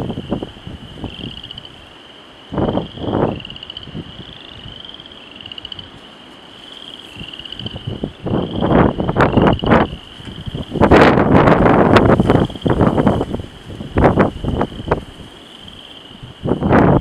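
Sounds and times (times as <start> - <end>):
wind buffeting microphone: 0.0 - 1.9, 2.5 - 17.0.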